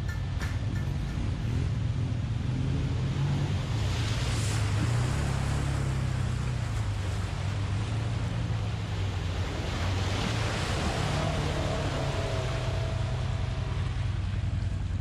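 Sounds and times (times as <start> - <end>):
engines droning: 0.0 - 15.0
muddy water splashing: 0.0 - 15.0.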